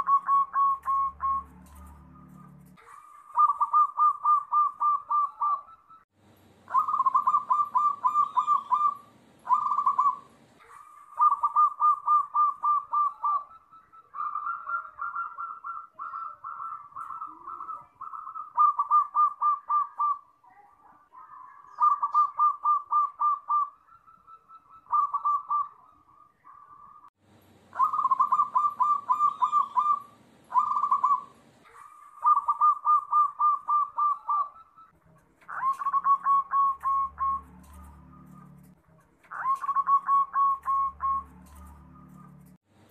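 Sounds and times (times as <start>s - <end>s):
doves cooing: 0.0s - 6.0s, 6.6s - 20.3s, 21.2s - 42.6s.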